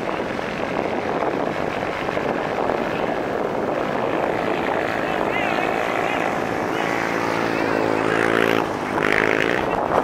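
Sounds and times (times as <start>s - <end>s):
crowded beach noise: 0.0s - 10.0s
motorboat and jet-ski engines droning: 0.0s - 10.0s.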